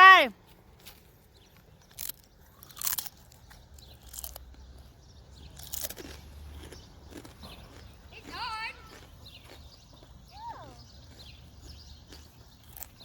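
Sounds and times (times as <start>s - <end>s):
sharp crunching sounds: 0.4s - 13.0s.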